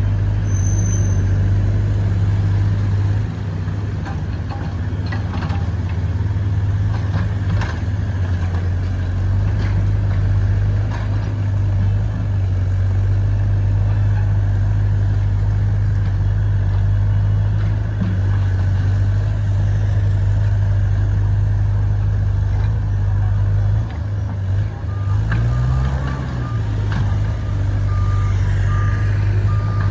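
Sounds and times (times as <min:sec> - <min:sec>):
excavator diesel engine droning: 0:00.0 - 0:29.9.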